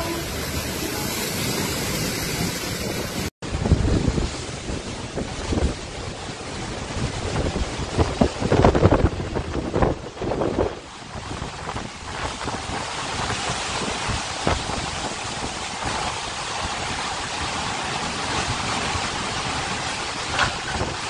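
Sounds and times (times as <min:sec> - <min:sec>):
storm wind and rain rushing: 0:00.0 - 0:21.0
wind buffeting microphone: 0:00.0 - 0:21.0.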